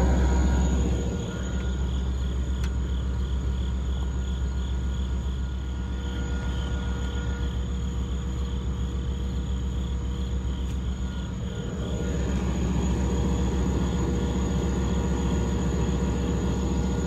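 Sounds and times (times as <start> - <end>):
crickets chirping: 0.0 - 17.0
train rumbling: 0.0 - 17.0.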